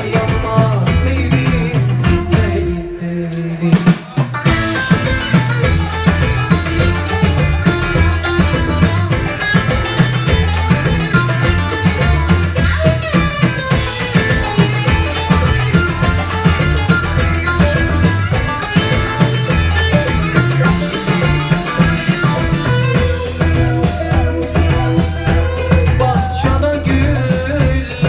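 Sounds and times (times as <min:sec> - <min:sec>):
live folk rock band: 0:00.0 - 0:28.0
plucked string lead: 0:04.3 - 0:28.0.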